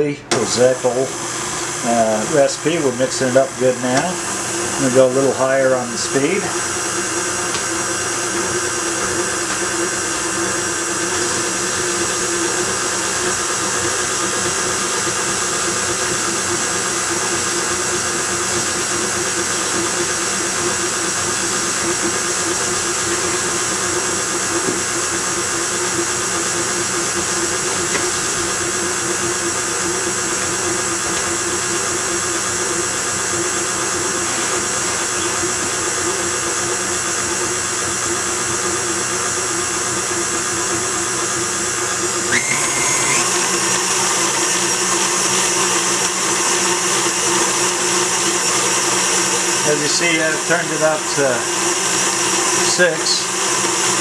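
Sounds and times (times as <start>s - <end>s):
stand mixer motor whining: 0.0s - 54.0s.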